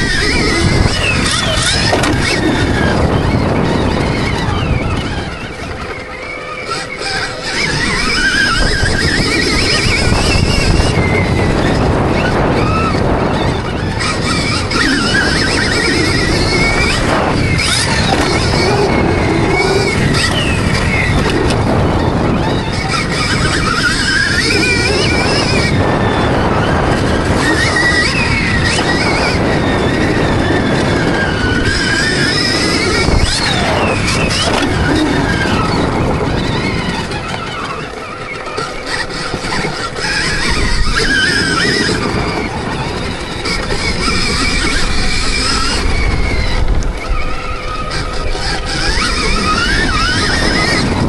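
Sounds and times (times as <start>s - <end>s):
dirt bike engine: 0.0s - 51.0s
wavering whine: 0.0s - 51.0s
wind noise on microphone: 0.0s - 51.0s.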